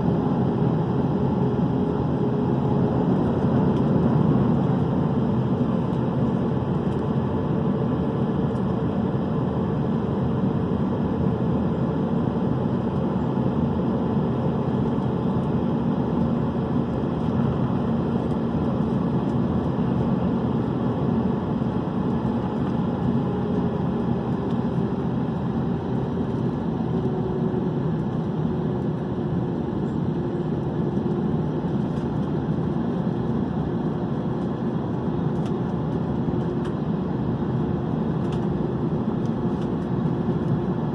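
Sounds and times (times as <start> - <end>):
jet engine cabin rush: 0.0 - 40.9.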